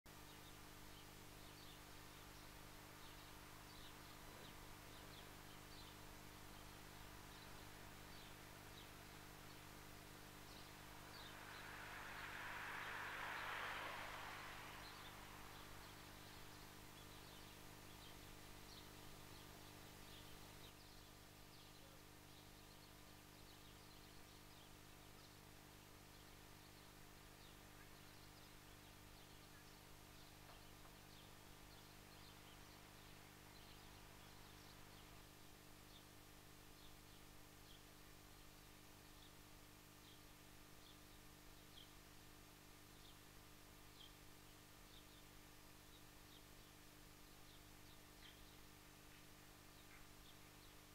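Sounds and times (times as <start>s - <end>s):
faint bird chirps: 0.1s - 50.9s
soft rush of noise: 0.1s - 50.9s.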